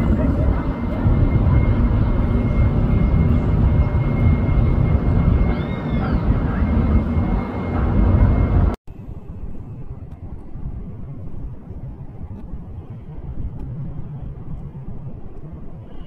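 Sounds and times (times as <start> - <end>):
faint high whine: 0.0 - 16.0
loud low outdoor rumble: 0.0 - 16.0.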